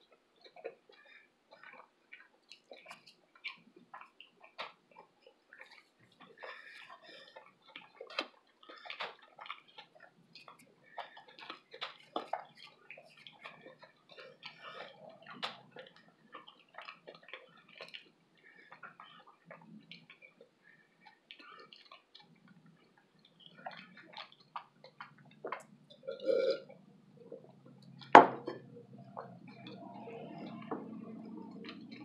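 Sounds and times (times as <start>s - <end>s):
chewing and wet mouth smacks: 0.0s - 32.0s.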